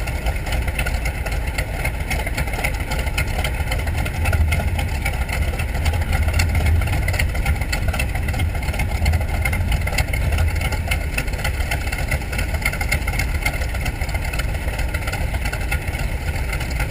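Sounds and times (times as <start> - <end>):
radial aircraft engine running: 0.0 - 16.9.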